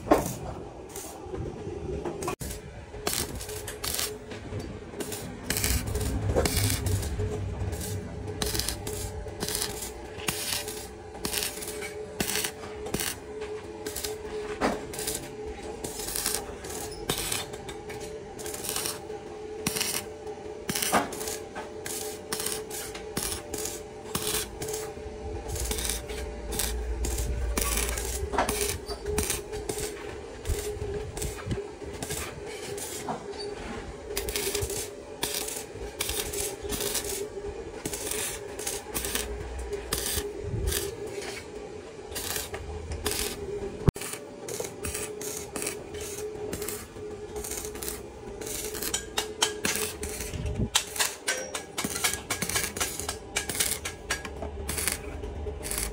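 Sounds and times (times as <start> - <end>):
steady hum: 0.0 - 55.9
metal scraping: 2.4 - 55.9.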